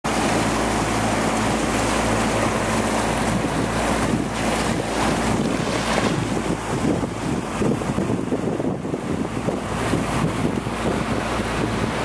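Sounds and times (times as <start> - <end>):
water rushing along hull: 0.0 - 12.0
boat engine drone: 0.1 - 12.0
wind buffeting microphone: 0.1 - 12.0.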